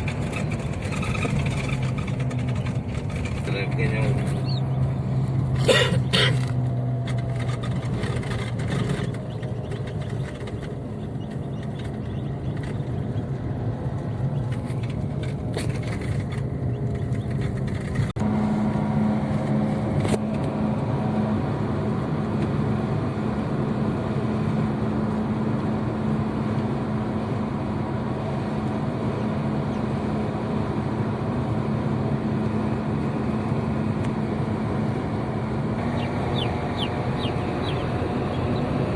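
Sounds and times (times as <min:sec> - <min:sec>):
car engine hum: 0:00.0 - 0:38.9
road noise: 0:00.0 - 0:38.9.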